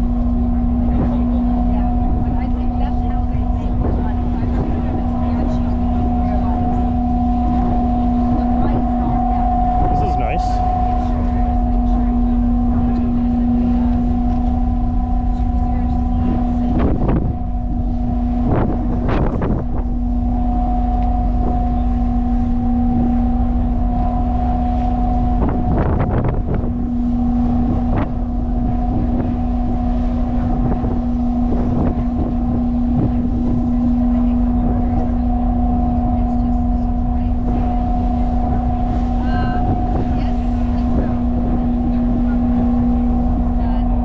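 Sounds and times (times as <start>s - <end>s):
ship machinery droning: 0.0s - 44.0s
wind and sea rumbling: 0.0s - 44.0s.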